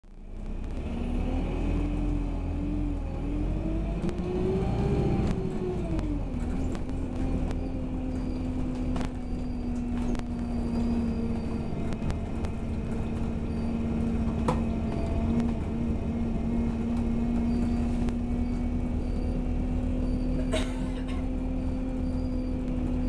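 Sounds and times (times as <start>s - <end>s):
bus engine rumble: 0.0s - 23.0s
drivetrain whine: 0.1s - 23.0s.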